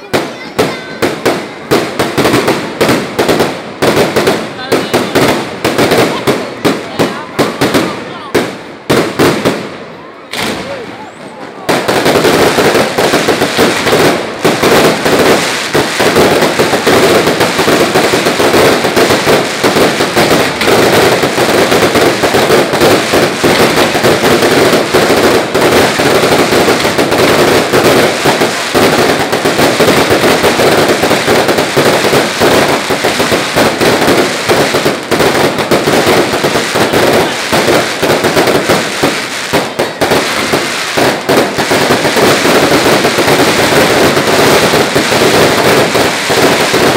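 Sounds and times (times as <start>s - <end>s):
fireworks and firecrackers banging: 0.0s - 46.9s.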